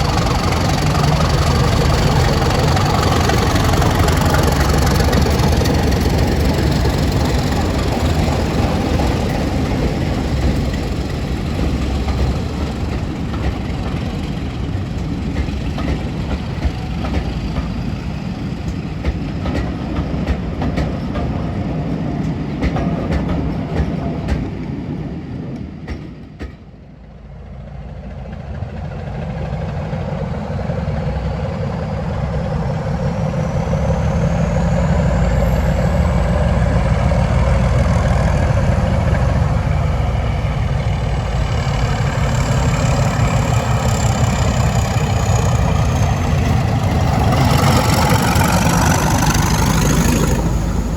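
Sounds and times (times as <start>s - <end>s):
wheels clicking over rail joints: 0.0s - 26.8s, 36.5s - 50.9s
diesel train passing: 0.0s - 50.9s.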